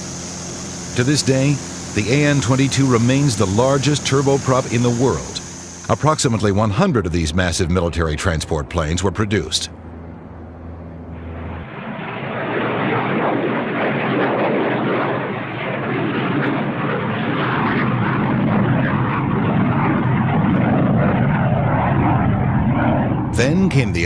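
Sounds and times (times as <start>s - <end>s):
turboprop aircraft passing: 0.0s - 24.0s.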